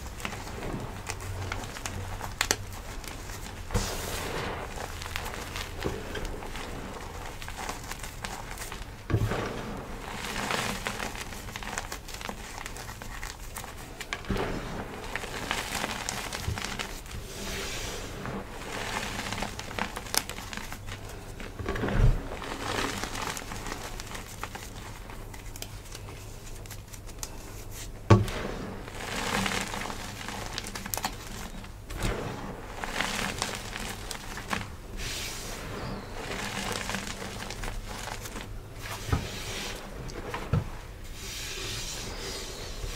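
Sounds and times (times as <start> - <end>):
chalk powder crunching and rustling: 0.0 - 42.9.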